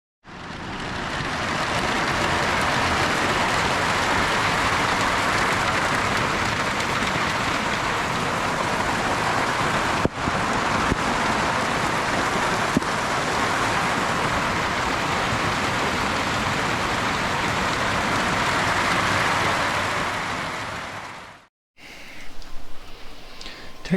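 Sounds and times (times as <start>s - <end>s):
steady rain hissing: 0.4s - 23.9s.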